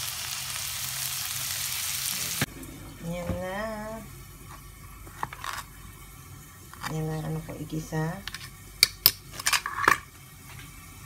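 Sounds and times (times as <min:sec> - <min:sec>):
onions sizzling in a pan: 0:00.0 - 0:09.4.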